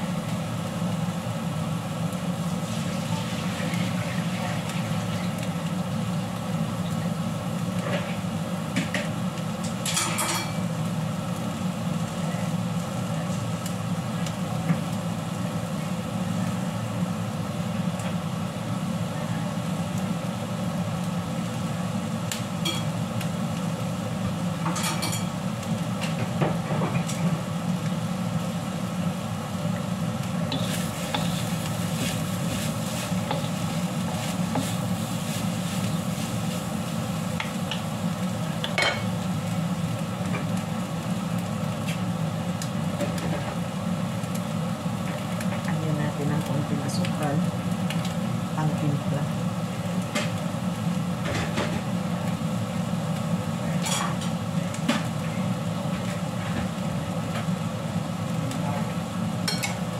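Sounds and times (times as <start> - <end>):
noodles sizzling in a wok: 0.0 - 59.9.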